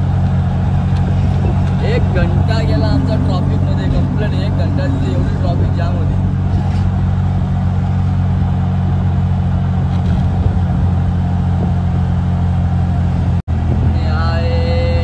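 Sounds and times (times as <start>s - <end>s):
auto-rickshaw engine running: 0.0s - 15.0s
road noise: 0.0s - 15.0s.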